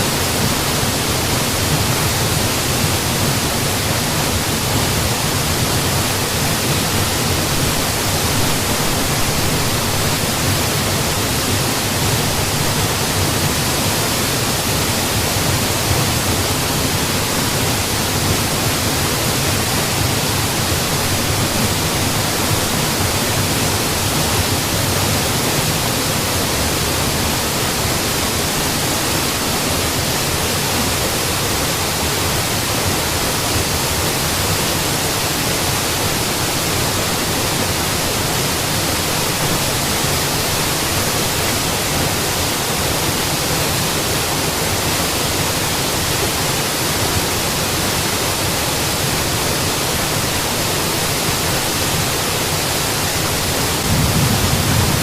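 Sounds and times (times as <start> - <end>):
waterfall crashing: 0.0 - 55.0.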